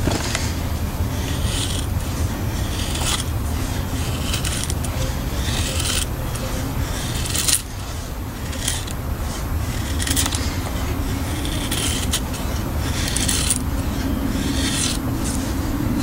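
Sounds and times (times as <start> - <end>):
knife scraping wood: 0.0 - 16.0.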